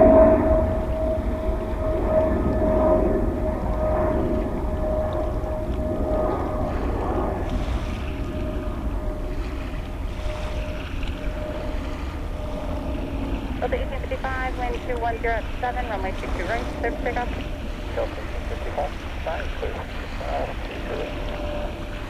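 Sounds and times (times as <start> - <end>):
jet airliner engines rumbling: 0.0 - 22.0
whining tone: 0.0 - 22.0
wind buffeting microphone: 0.0 - 22.0.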